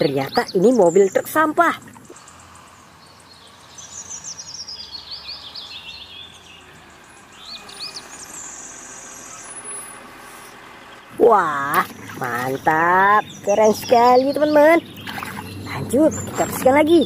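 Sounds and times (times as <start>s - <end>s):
birds chirping in trills: 0.0s - 17.0s
garbage truck engine hum: 0.8s - 17.0s.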